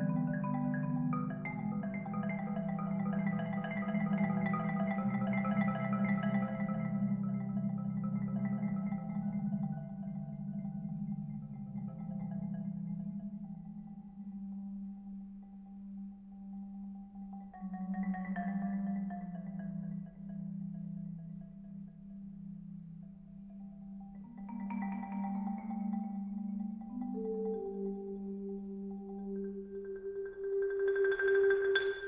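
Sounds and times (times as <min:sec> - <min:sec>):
marimba playing: 0:00.0 - 0:13.8, 0:17.2 - 0:22.8, 0:23.8 - 0:32.0.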